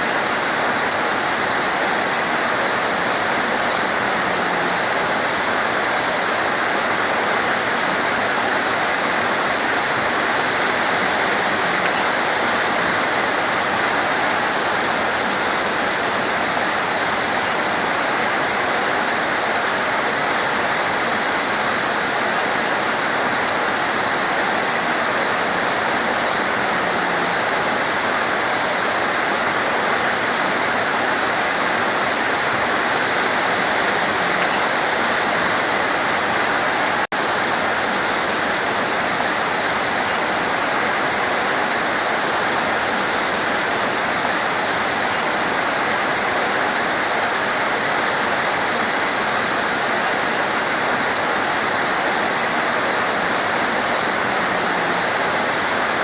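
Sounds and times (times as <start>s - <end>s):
torrential rain: 0.0s - 56.0s.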